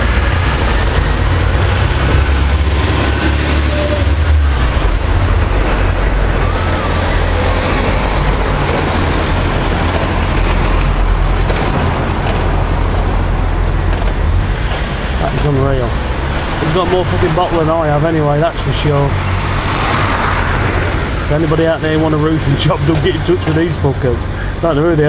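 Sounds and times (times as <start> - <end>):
low rumble of road traffic: 0.0 - 25.0.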